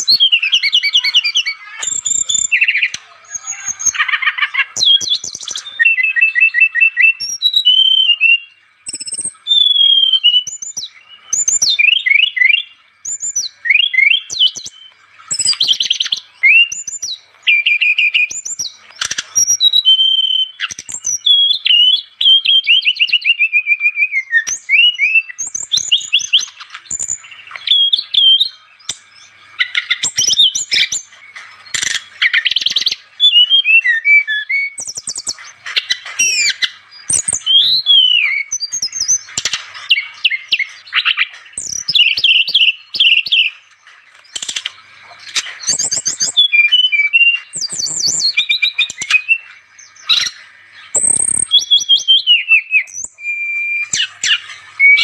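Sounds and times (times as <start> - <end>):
flycatcher singing: 0.0 - 55.0.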